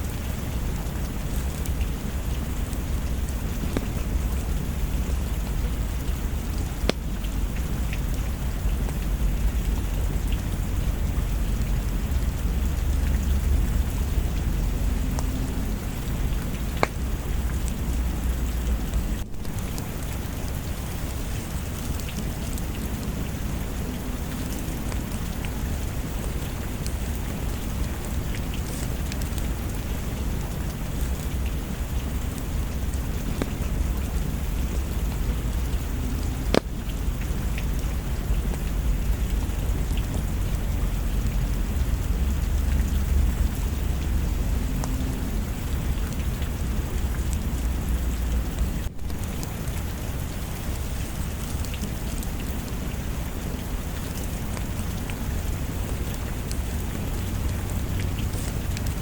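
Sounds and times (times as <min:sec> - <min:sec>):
steady rain: 0:00.0 - 0:59.0
wood fire crackling: 0:00.0 - 0:59.0.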